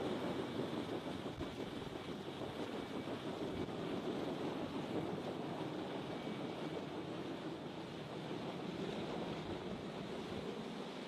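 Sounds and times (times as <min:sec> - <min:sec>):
helicopter rotor and turbines: 0:00.0 - 0:11.0.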